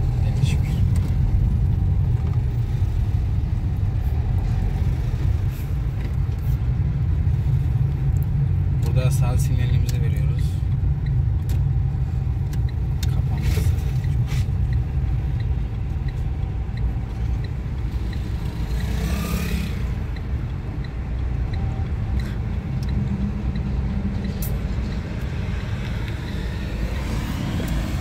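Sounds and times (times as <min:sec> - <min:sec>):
car engine and road rumble: 0:00.0 - 0:28.0
turn signal ticking: 0:00.0 - 0:28.0.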